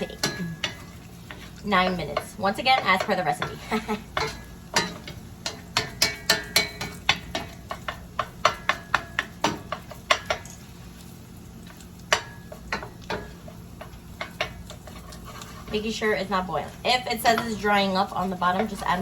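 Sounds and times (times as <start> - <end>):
spoon clacking against a pan: 0.0 - 10.7, 11.6 - 19.0.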